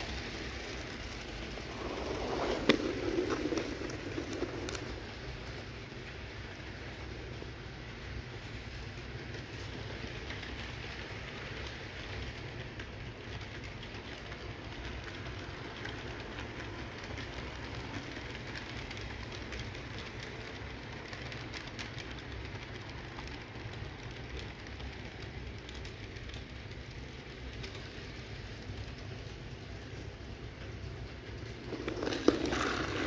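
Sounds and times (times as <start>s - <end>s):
model train motor rumbling: 0.0s - 33.0s
wheels clicking on rail joints: 0.0s - 33.0s.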